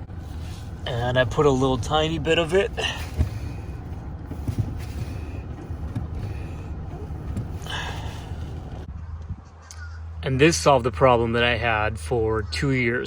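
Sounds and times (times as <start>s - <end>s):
car rumbling: 0.0s - 13.0s.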